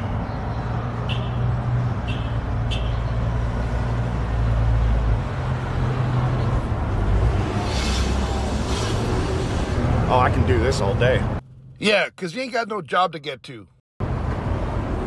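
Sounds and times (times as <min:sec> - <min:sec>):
vehicle engine rumbling: 0:00.0 - 0:12.2.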